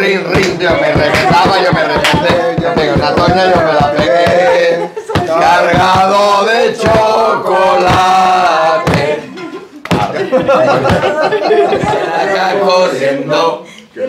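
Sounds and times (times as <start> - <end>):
percussive beats: 0.0 - 12.1
group singing a carol: 0.0 - 14.0.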